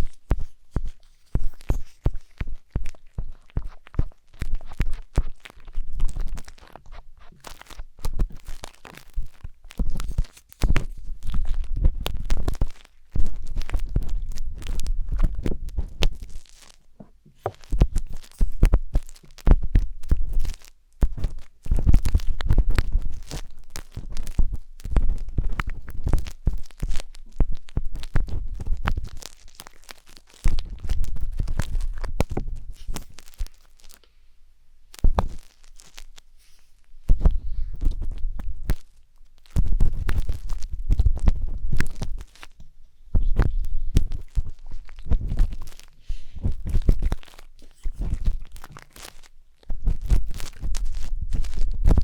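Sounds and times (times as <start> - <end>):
wooden skewer scratching microphone: 0.0 - 27.4, 35.1 - 38.9, 39.6 - 52.0.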